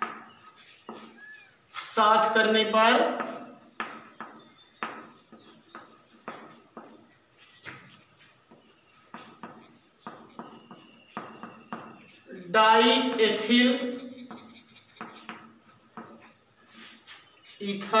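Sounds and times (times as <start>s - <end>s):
chalk tapping and scraping: 0.0s - 1.9s, 3.1s - 12.3s, 13.0s - 18.0s.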